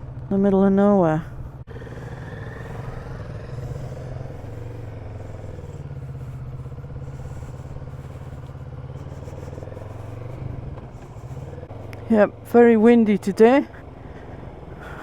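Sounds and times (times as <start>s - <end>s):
motorcycle engine running steadily: 0.0s - 15.0s.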